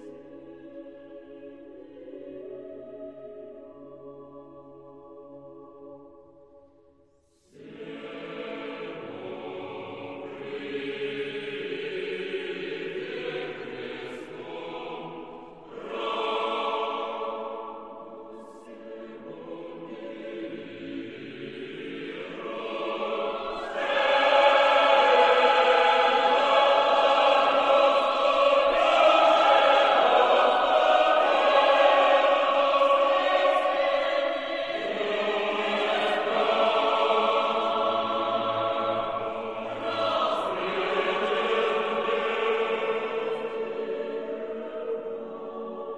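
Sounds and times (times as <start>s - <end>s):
choir singing sustained chords: 0.0s - 45.9s.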